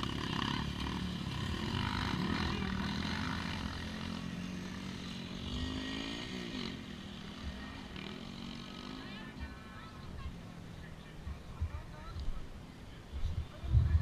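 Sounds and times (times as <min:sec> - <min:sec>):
motorbike engines revving: 0:00.0 - 0:14.0.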